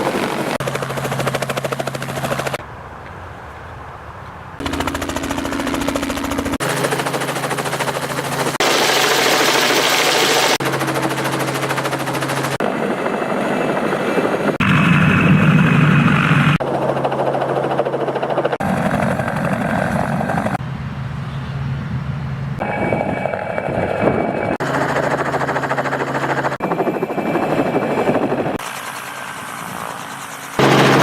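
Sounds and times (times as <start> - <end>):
helicopter rotor chop: 0.0 - 2.6, 4.6 - 20.6, 22.6 - 31.0.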